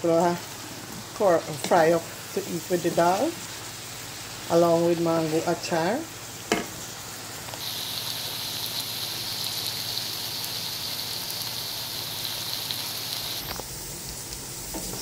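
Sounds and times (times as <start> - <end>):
vegetables frying in hot oil: 0.0 - 15.0.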